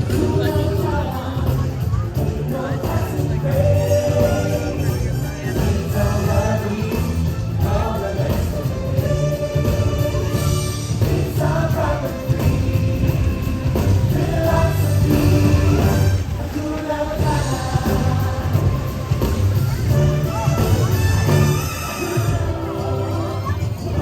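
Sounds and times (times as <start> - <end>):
choir-like singing with music: 0.0 - 24.0.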